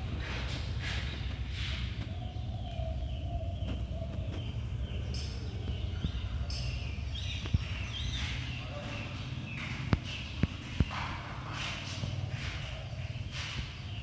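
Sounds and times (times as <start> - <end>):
faint bird chirps: 0.3 - 14.0.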